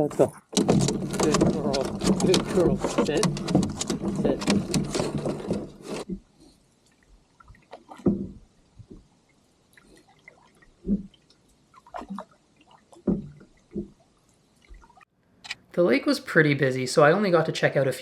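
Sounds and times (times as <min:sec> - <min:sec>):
water splashing and dripping: 0:00.0 - 0:15.1.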